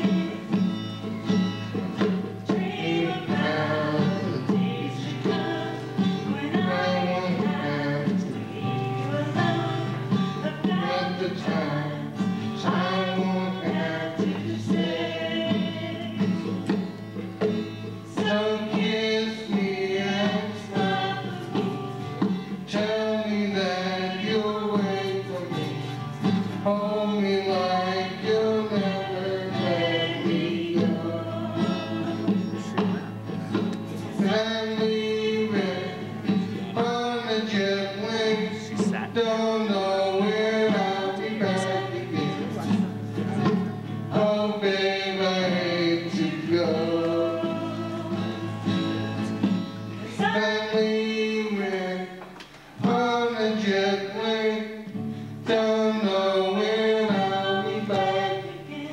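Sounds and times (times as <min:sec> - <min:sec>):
man singing into microphone: 0:00.0 - 0:00.6, 0:02.5 - 0:16.5, 0:18.1 - 0:33.1, 0:34.0 - 0:58.9
strummed acoustic guitar: 0:00.0 - 0:58.9
women's backing vocals: 0:02.4 - 0:16.5, 0:18.1 - 0:33.1, 0:34.1 - 0:54.8, 0:55.5 - 0:58.9.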